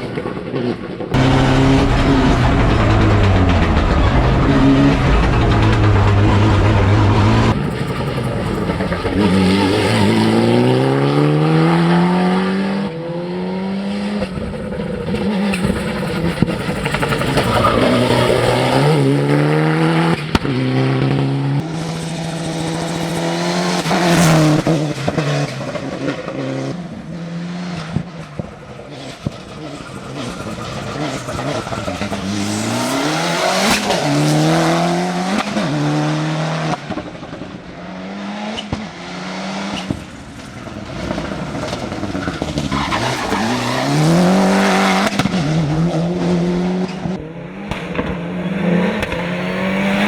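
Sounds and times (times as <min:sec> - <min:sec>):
car engine accelerating: 0:01.0 - 0:50.0.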